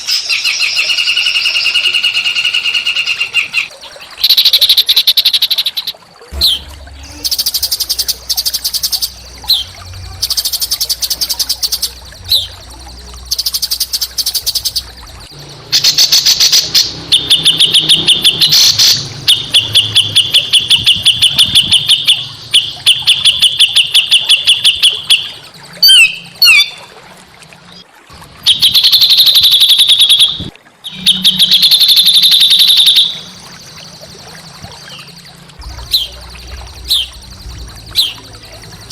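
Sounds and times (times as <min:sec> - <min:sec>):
songbirds trilling and chattering: 0:00.0 - 0:26.9, 0:28.4 - 0:38.9.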